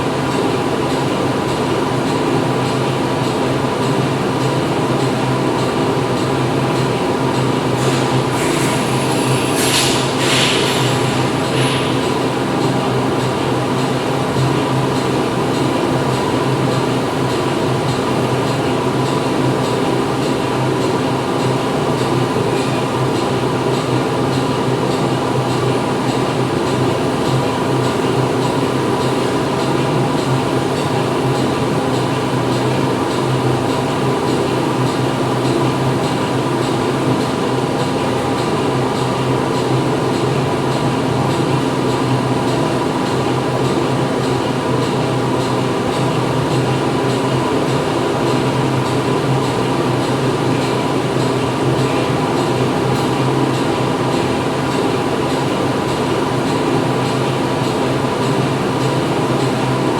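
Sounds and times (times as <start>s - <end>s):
factory machines humming: 0.0s - 59.9s.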